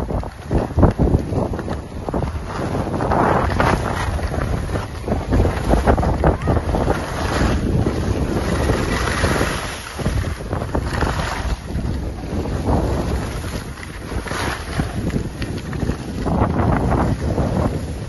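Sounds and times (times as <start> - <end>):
skis scraping over snow: 0.0 - 18.0
wind rumbling on microphone: 0.0 - 18.0.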